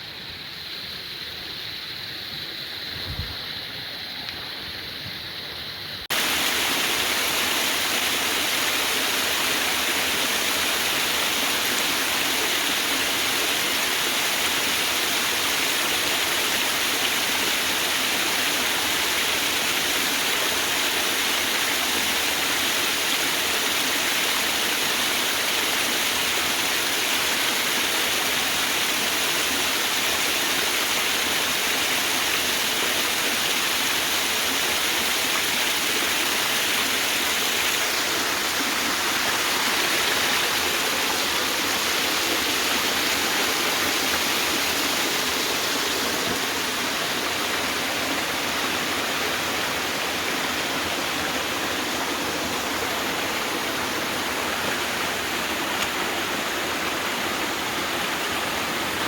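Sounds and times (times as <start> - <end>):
waterfall rushing: 6.0 - 59.0.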